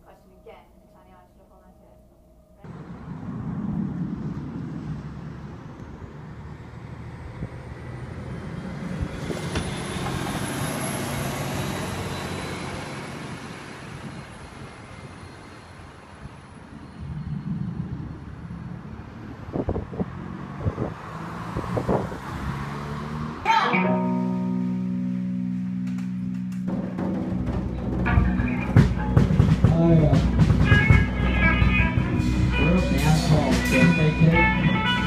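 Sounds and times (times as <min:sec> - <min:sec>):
passing vehicle with high whine: 0:02.2 - 0:35.0
low engine hum: 0:02.6 - 0:35.0.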